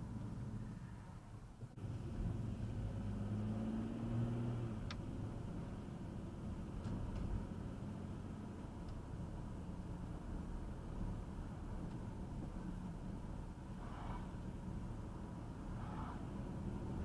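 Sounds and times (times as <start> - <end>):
car engine and road rumble: 0.0 - 17.0
engine hum: 0.0 - 17.0.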